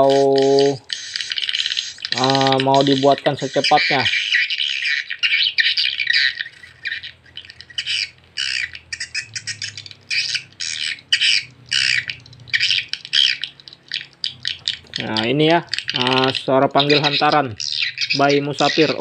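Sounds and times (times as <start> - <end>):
swiftlet chirping through speakers: 0.0 - 19.0.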